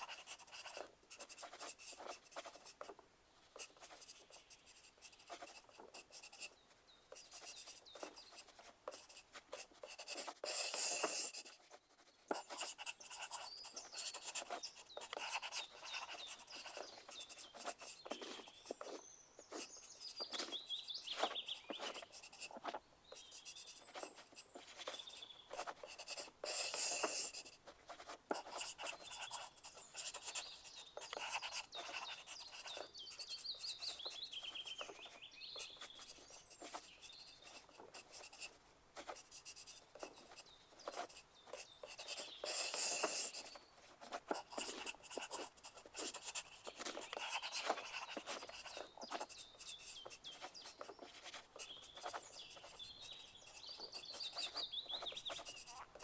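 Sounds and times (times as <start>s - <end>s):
pencil scratching on paper: 0.0s - 3.0s, 3.6s - 56.0s.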